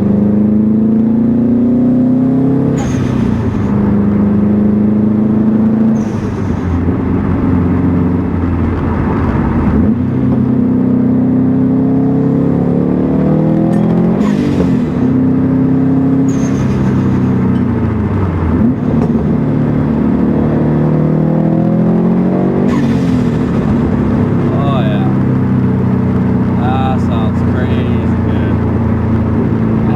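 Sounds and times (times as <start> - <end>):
car engine accelerating through gears: 0.0 - 29.9.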